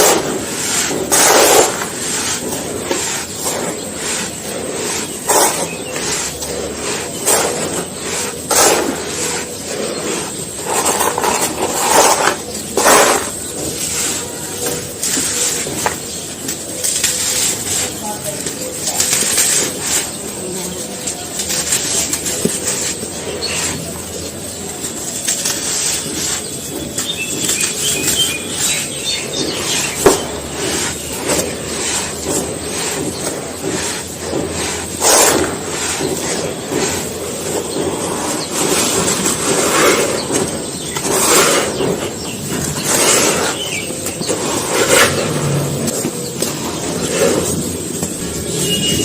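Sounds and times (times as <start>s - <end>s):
grainy material crunching: 0.0s - 49.0s.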